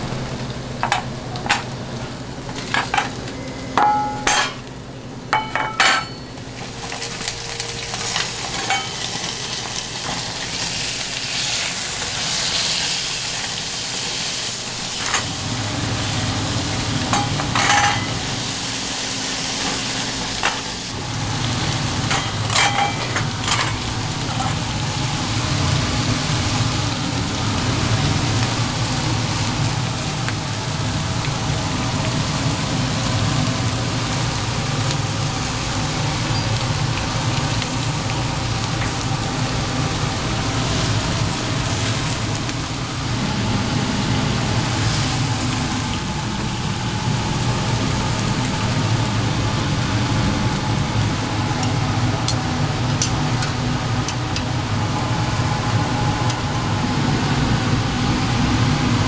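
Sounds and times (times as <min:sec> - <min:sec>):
patties sizzling on a grill: 0:05.9 - 0:59.0.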